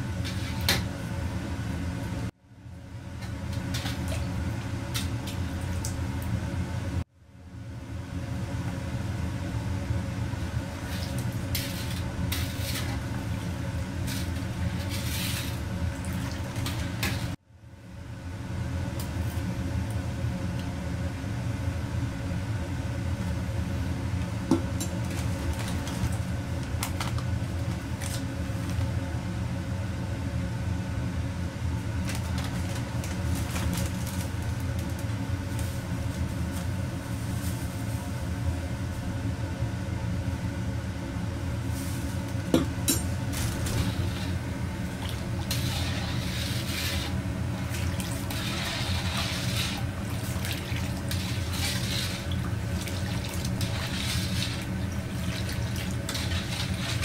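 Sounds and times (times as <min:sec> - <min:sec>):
gas burner and extractor hood rumble: 0:00.0 - 0:57.0.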